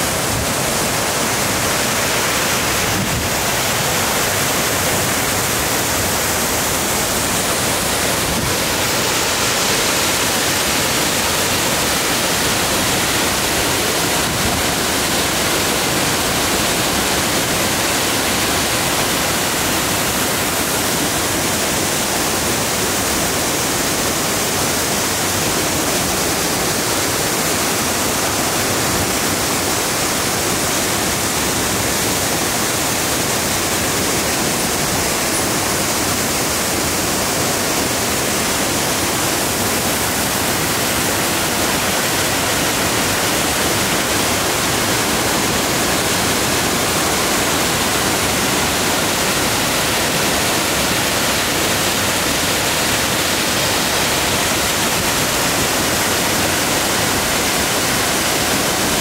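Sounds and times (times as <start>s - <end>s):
waterfall crashing: 0.0s - 59.0s.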